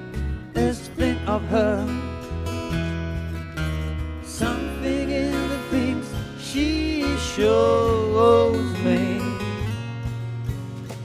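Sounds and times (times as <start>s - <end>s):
drums: 0.0s - 11.0s
electric bass: 0.0s - 11.0s
strummed acoustic guitar: 0.0s - 11.0s.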